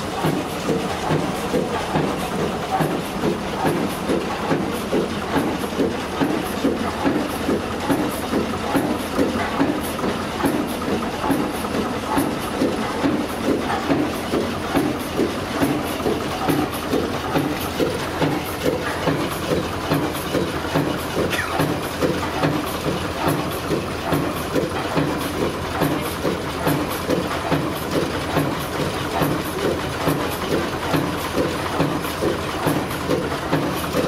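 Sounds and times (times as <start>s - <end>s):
diesel engine idling with knocking: 0.0s - 34.0s.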